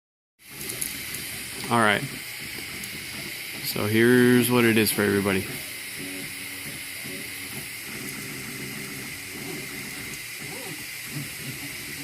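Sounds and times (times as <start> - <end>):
cooling fans hiss: 0.4 - 12.0
stepper motors singing tones: 0.6 - 12.0.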